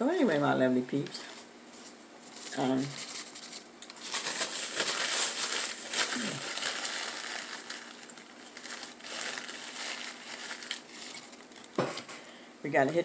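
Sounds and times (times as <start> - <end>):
paper napkin rustling: 1.2 - 12.1.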